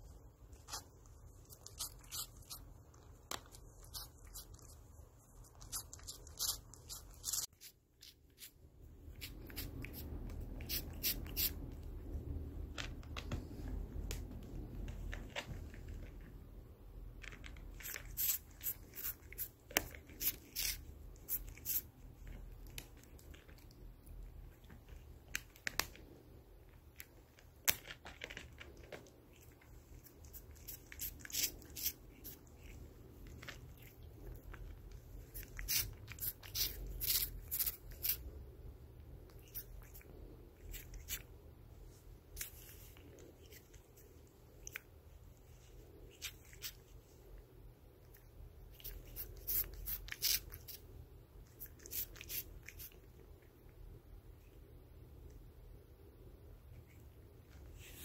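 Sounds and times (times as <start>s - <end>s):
cat licking and nibbling fabric: 0.0s - 58.0s
low steady rumble: 8.1s - 58.0s.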